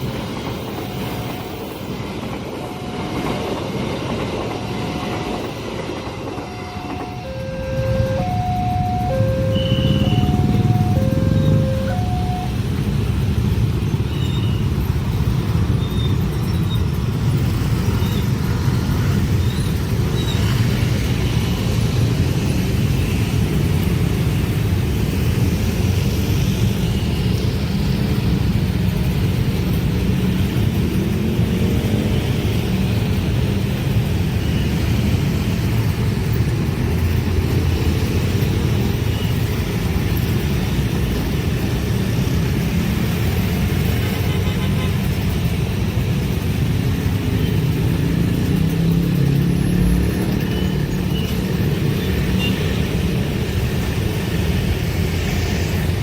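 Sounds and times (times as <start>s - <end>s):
train passing rumble: 0.0s - 56.0s.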